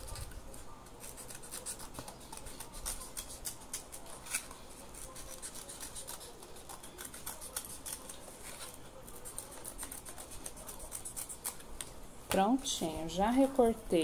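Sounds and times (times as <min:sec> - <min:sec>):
scissors snipping paper: 0:00.0 - 0:12.0.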